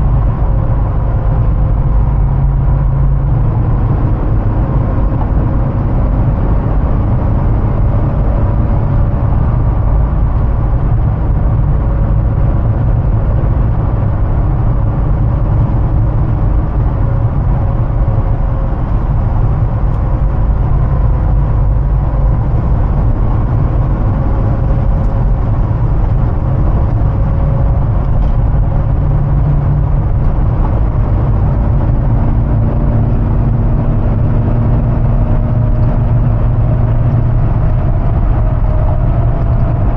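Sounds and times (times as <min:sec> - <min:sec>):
car engine cruising: 0:00.0 - 0:39.9
road noise: 0:00.0 - 0:39.9.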